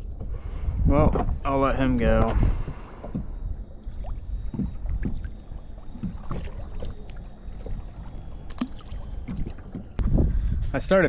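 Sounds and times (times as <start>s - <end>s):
water splashes: 0.0s - 10.0s.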